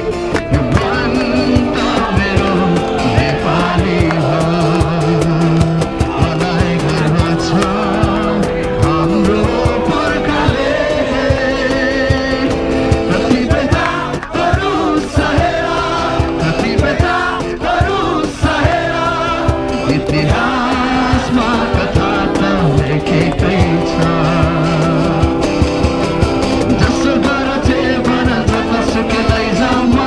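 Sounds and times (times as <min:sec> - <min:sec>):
crowd singing together: 0:00.0 - 0:30.0
percussion beat: 0:00.0 - 0:30.0
strummed acoustic guitars: 0:00.0 - 0:30.0.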